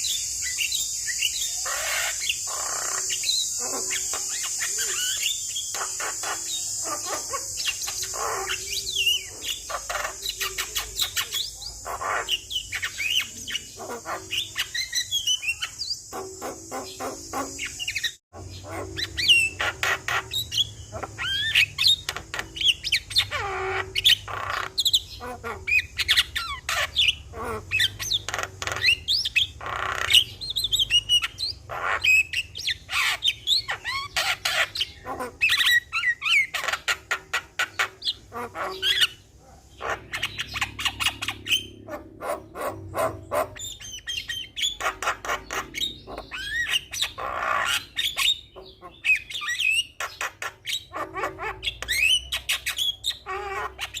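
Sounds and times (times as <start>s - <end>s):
mynas whistling and squawking: 0.0s - 54.0s.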